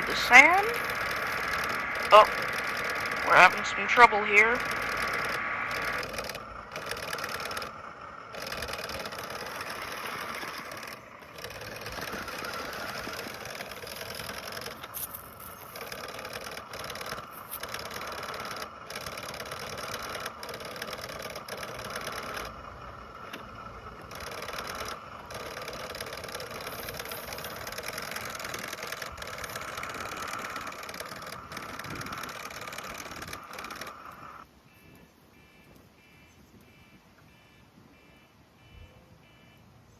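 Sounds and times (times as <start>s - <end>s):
toy truck electric motor whirring: 0.0s - 34.5s.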